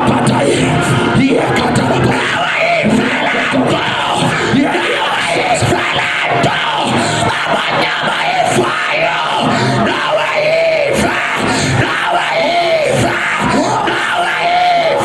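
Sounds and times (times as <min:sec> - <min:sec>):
church music: 0:00.0 - 0:15.0
congregation shouting: 0:00.0 - 0:15.0.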